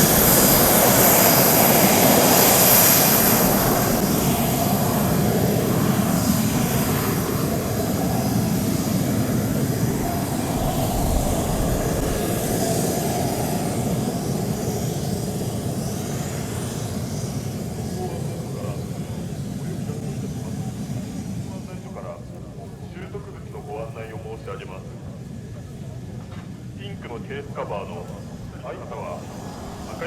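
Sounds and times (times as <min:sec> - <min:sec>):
jet engine rush: 0:00.0 - 0:25.0, 0:26.6 - 0:30.0.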